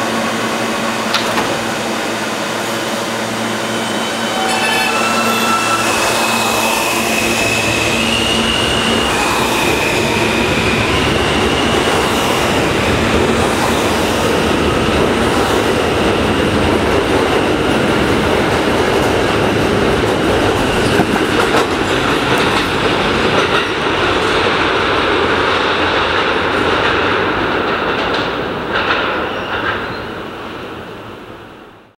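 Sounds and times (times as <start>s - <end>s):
subway train propulsion whine: 0.0s - 31.9s.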